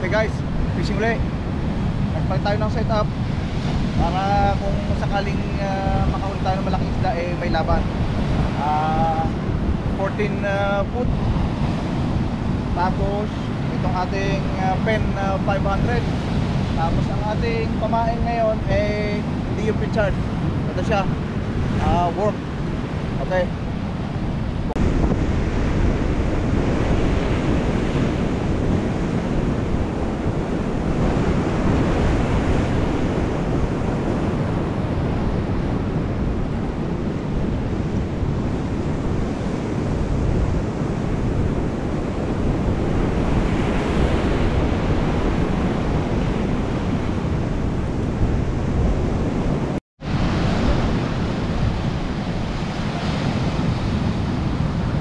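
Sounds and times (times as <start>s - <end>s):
ocean surf breaking on rocks: 0.0s - 55.0s
wind buffeting microphone: 0.0s - 55.0s.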